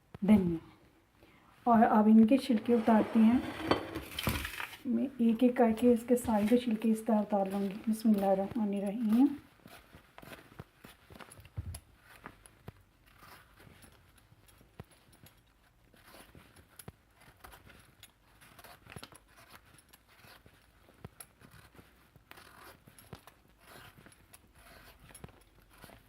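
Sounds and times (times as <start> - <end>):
gourds being peeled: 1.8 - 26.0.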